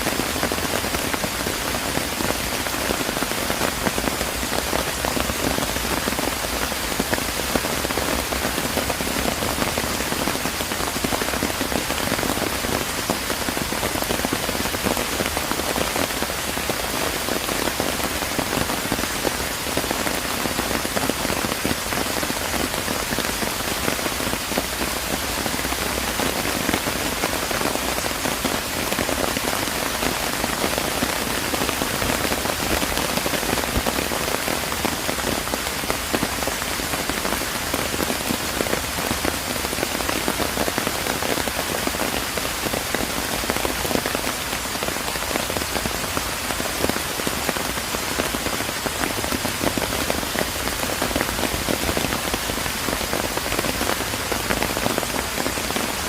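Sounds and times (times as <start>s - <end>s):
rain pattering on surfaces: 0.0s - 56.0s.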